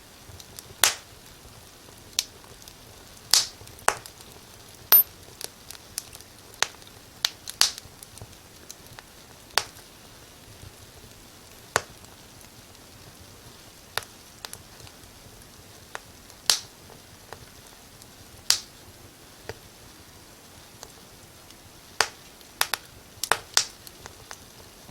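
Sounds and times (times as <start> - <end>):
faint steady hiss: 0.0 - 24.9
firewood crackling and popping: 0.2 - 24.9.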